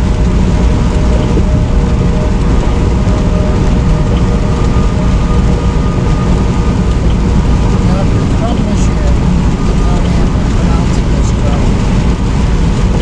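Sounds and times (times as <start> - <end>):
faint steady whine: 0.0 - 13.0
truck cab road and engine rumble: 0.0 - 13.0.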